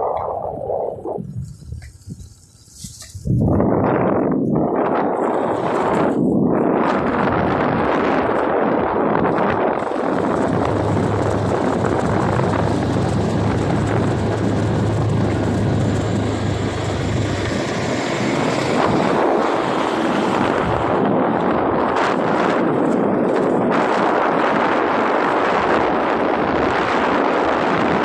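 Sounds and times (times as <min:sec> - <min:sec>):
low hum: 0:00.0 - 0:26.8
heavy rushing noise: 0:00.0 - 0:28.0
vehicle engine droning: 0:04.8 - 0:28.0.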